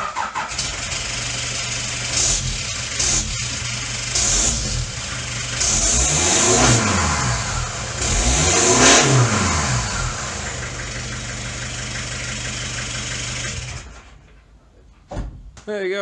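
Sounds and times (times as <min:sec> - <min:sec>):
engine revving: 0:00.0 - 0:14.0
engine idling: 0:00.0 - 0:14.5.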